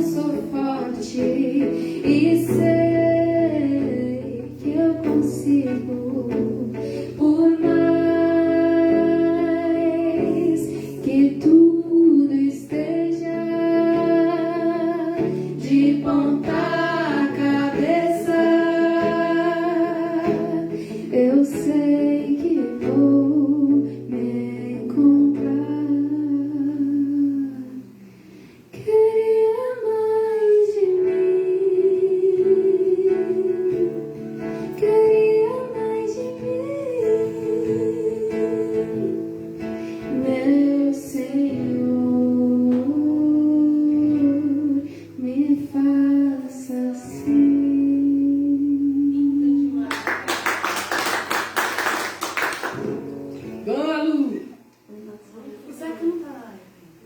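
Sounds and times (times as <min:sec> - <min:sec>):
person singing: 0:00.0 - 0:28.0, 0:28.8 - 0:39.4, 0:40.0 - 0:49.9
guitar accompaniment: 0:00.0 - 0:57.0.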